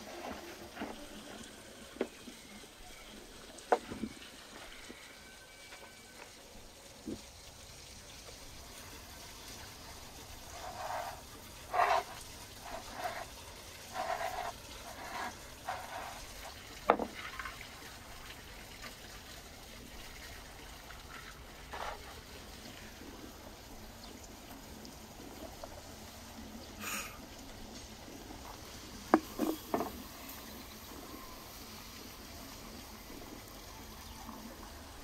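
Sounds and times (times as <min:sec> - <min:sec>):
faint outdoor hiss: 0:00.0 - 0:35.0.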